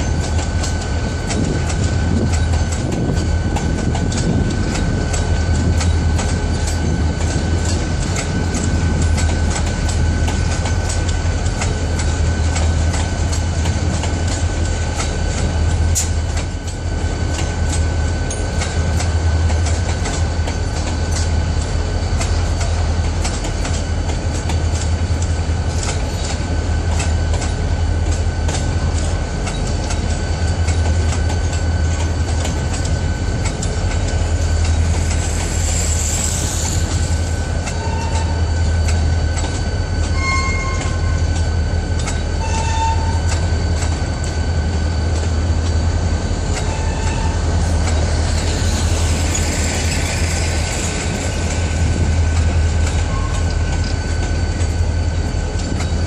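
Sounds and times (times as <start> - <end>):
wheels clicking over rail joints: 0.0 - 45.8, 46.5 - 56.0
freight train rumbling past: 0.0 - 56.0
train wheel squeals: 0.0 - 56.0.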